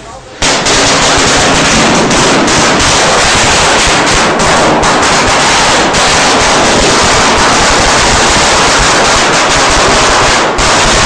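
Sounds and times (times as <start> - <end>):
firecrackers banging rapidly: 0.4 - 11.0.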